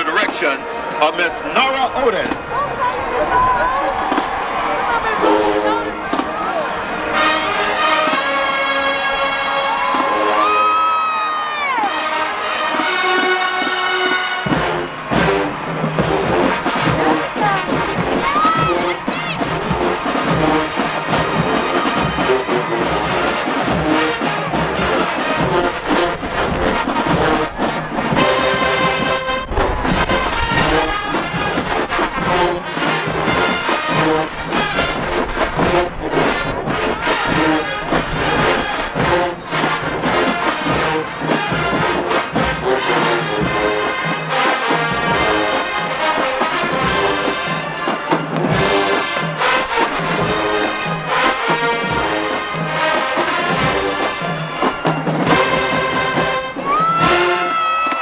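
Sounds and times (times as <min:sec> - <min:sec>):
marching band brass playing: 0:00.0 - 0:58.0.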